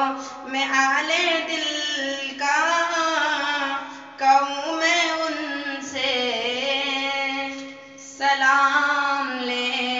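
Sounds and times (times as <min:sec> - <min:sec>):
boy singing unaccompanied: 0:00.0 - 0:09.9.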